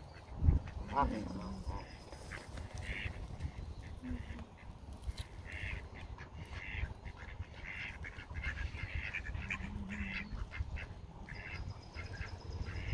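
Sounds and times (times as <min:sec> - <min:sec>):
ducks quacking: 0:00.1 - 0:04.8, 0:05.4 - 0:12.9.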